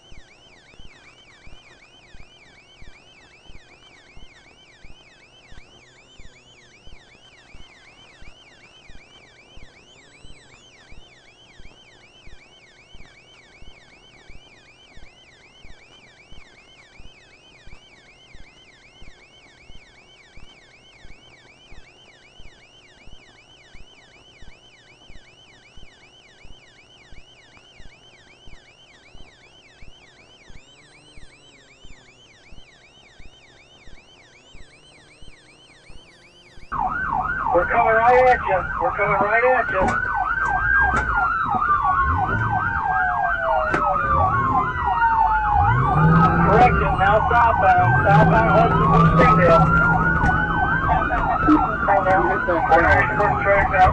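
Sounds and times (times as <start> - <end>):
police sirens yelping and wailing: 0.0 - 53.9.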